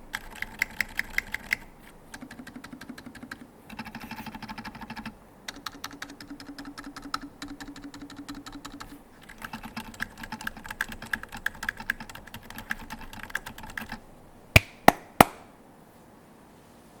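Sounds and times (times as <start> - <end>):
fast typing on mechanical keyboard: 0.0 - 14.0
loud sharp keyboard clacks: 0.0 - 14.0.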